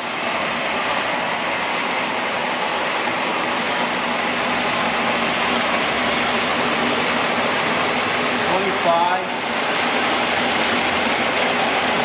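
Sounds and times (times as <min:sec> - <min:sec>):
lathe whirring: 0:00.0 - 0:12.0.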